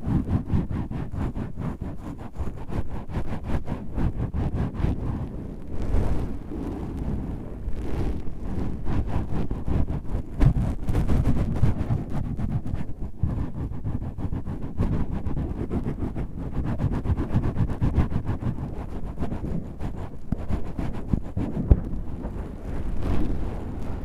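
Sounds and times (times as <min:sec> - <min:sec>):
microphone windscreen scratching: 0:00.0 - 0:24.0.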